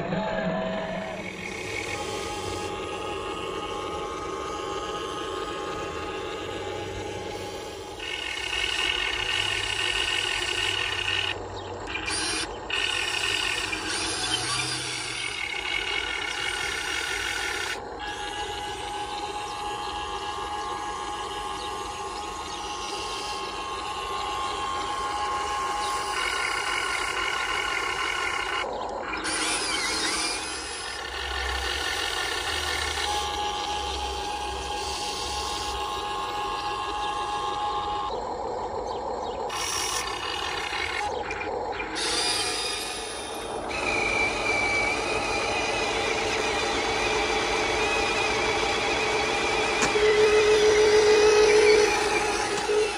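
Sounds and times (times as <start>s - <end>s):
toy excavator gear motors whining: 0.0s - 52.9s.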